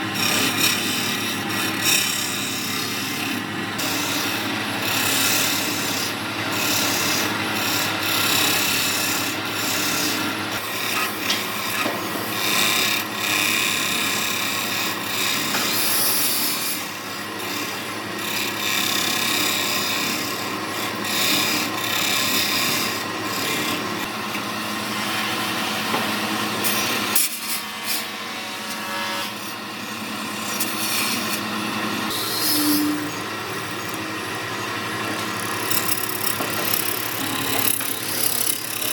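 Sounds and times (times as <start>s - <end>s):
lathe tool scraping wood: 0.0s - 38.9s.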